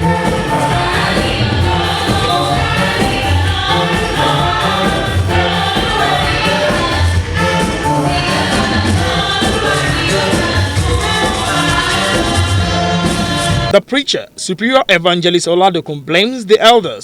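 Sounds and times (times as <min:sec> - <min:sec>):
bass and percussion beat: 0:00.0 - 0:13.8
choir singing gospel: 0:00.0 - 0:13.8.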